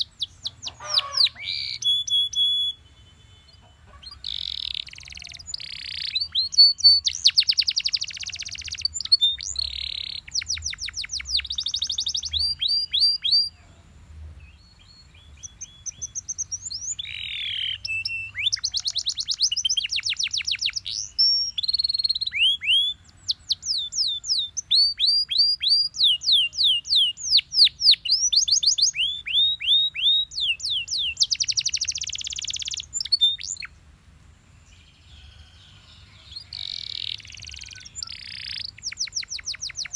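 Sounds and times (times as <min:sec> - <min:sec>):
canary singing trills: 0:00.0 - 0:33.8, 0:34.6 - 0:39.9.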